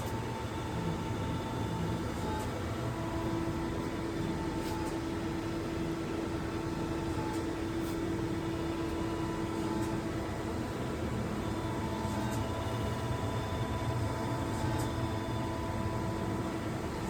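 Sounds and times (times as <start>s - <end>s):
spindle drive whine: 0.0s - 17.0s.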